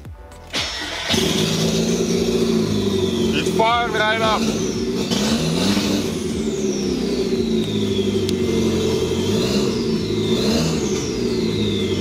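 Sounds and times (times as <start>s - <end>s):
car engine idling: 0.3s - 12.0s.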